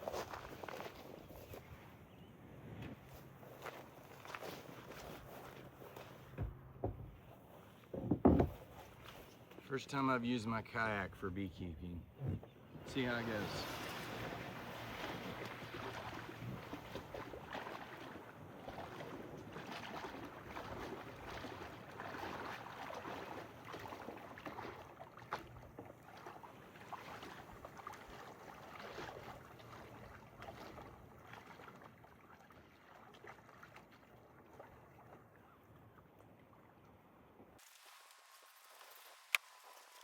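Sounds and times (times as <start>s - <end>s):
paddle strokes splashing: 0.0s - 2.0s, 2.6s - 11.4s, 12.2s - 36.7s
water swishing along hull: 0.0s - 40.0s.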